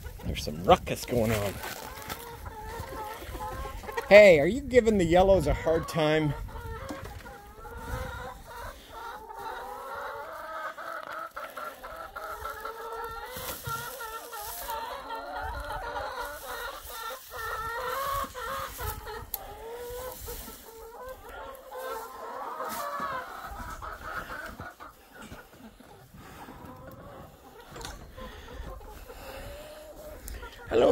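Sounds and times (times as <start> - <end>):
chickens clucking and squawking: 0.0 - 30.9.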